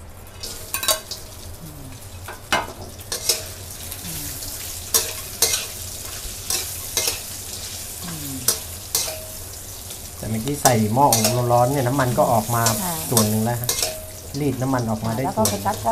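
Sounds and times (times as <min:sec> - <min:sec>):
low sizzle: 0:00.0 - 0:15.9.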